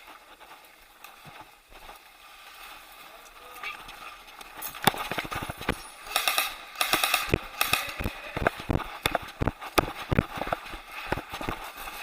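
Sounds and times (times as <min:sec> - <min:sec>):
footsteps crunching on rough ground: 0:00.0 - 0:12.0.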